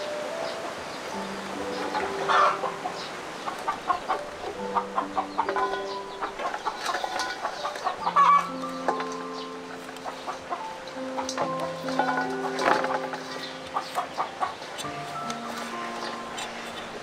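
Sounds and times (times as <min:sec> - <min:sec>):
music of long held notes: 0:00.0 - 0:17.0.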